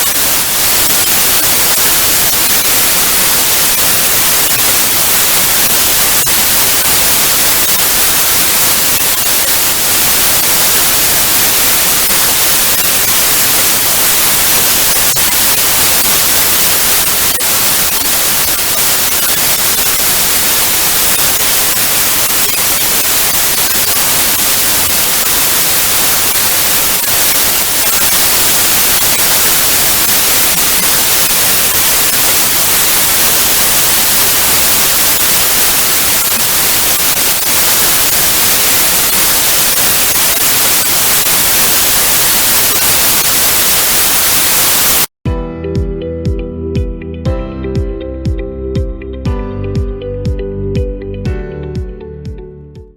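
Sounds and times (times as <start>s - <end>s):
tv static hiss: 0.0s - 45.2s.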